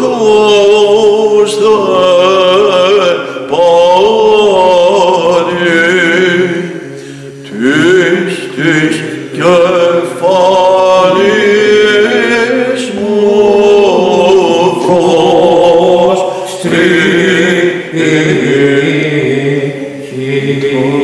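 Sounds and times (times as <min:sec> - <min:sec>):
man chanting ornamented melody: 0:00.0 - 0:21.0.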